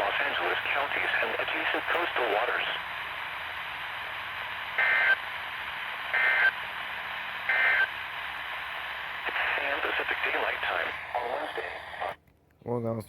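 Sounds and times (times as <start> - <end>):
radio receiver hiss: 0.0 - 12.2.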